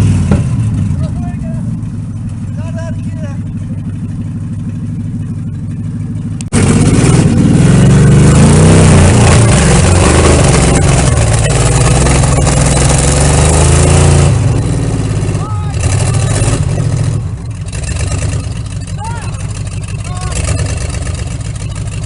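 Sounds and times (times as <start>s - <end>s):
pickup truck engine revving: 0.0s - 22.0s.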